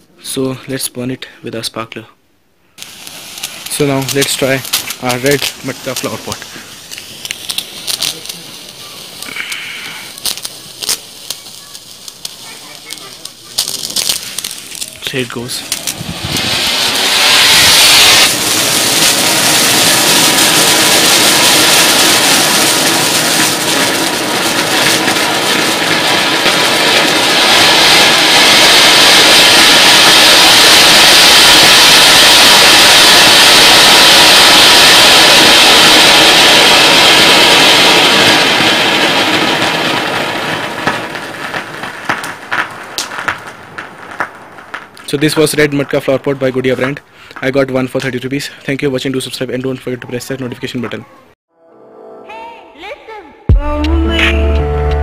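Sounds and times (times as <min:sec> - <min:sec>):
fountain firework hissing: 0:02.8 - 0:47.5
sharp crackles: 0:02.8 - 0:51.0.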